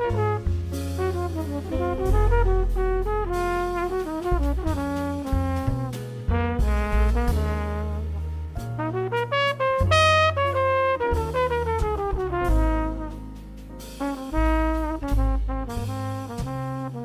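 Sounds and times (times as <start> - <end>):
drums with cymbals: 0.0 - 7.8, 11.1 - 17.0
bass: 0.0 - 17.0
piano: 0.0 - 17.0
trumpet melody: 0.0 - 17.0.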